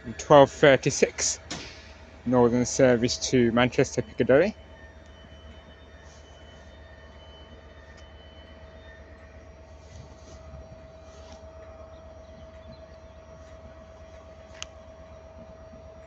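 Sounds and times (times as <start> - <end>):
steady whining tone: 0.0 - 16.0
train rumble: 0.0 - 16.0.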